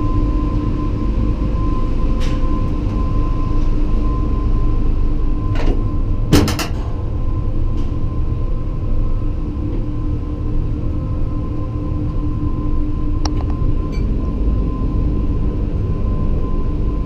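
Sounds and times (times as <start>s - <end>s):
mechanical hum and rumble: 0.0s - 17.0s.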